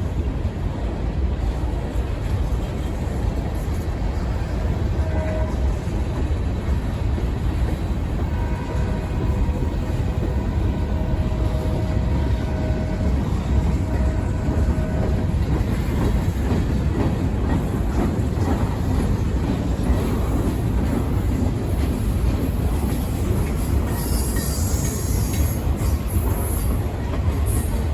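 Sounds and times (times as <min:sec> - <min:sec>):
rumble of train wheels on rail: 0:00.0 - 0:27.9.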